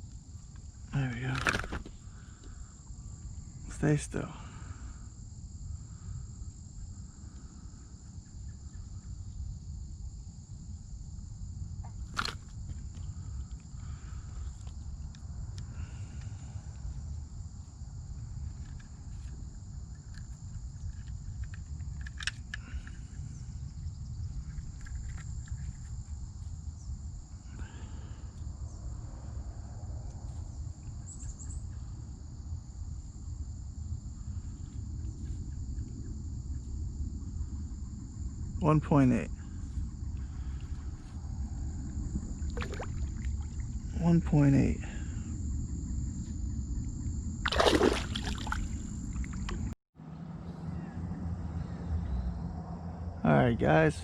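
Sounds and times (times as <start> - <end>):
insects chirring: 0.0 - 49.8, 50.7 - 54.0
constant low rumble: 0.0 - 54.0.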